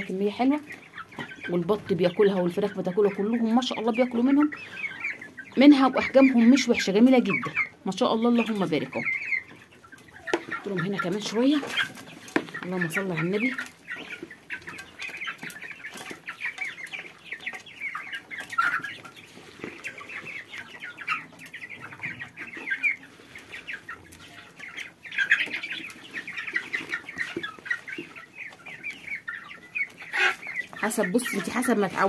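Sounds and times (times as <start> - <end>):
chickens and ducks peeping and clucking: 0.0 - 32.0.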